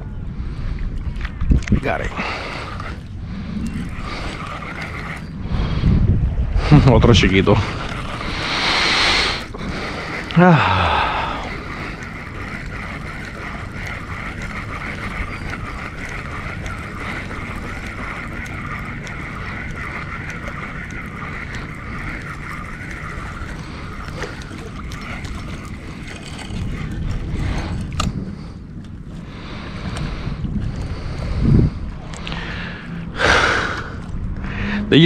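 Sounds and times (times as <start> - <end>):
wind buffeting microphone: 0.0 - 35.0
fishing reel whirring: 0.6 - 35.0.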